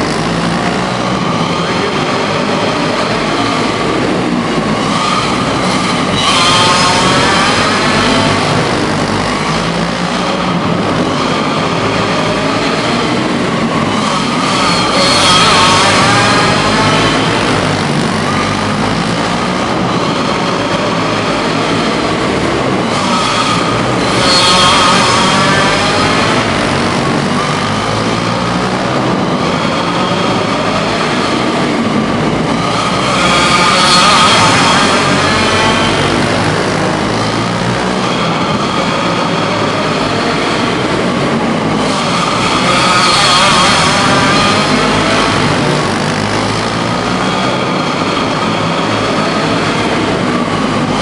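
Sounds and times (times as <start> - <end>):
go-kart engines racing: 0.0 - 51.0.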